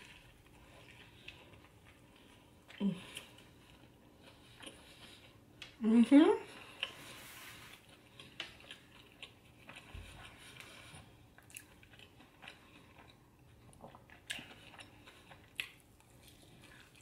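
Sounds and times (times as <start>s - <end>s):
soft wet chewing: 0.0s - 17.0s.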